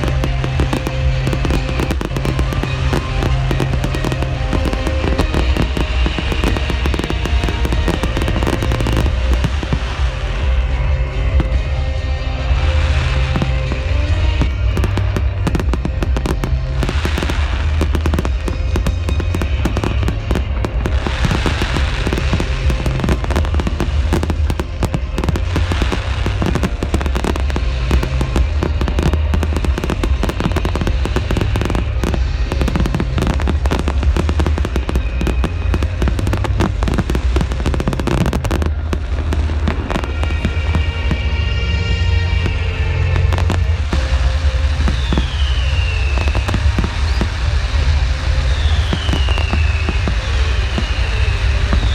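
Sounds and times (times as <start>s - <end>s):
deep rumble of firework bursts: 0.0s - 51.9s
fireworks crackling and popping: 0.0s - 51.9s.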